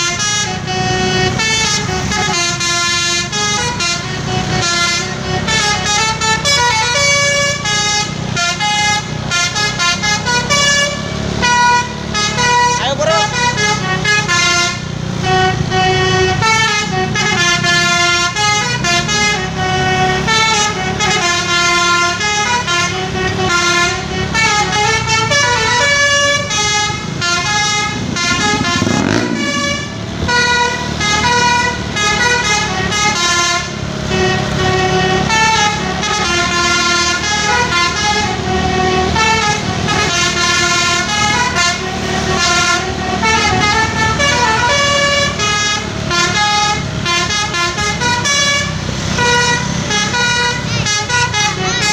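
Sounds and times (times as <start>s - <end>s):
bus engine running: 0.0s - 51.9s
musical bus horn tune: 0.0s - 51.9s
rising and falling horn sweep: 0.0s - 51.9s.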